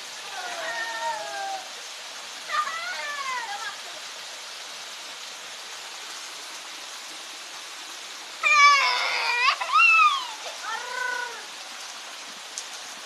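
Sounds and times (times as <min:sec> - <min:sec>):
rain on wet pavement: 0:00.0 - 0:13.0.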